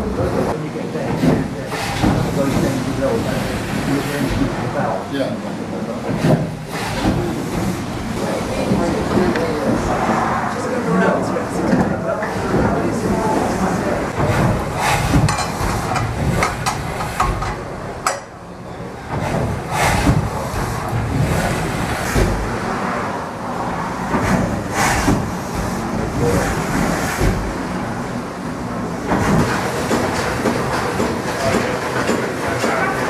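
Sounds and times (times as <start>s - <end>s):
steam engine clanks and knocks: 0.9s - 4.9s, 5.9s - 10.0s, 11.6s - 22.8s, 24.0s - 33.0s.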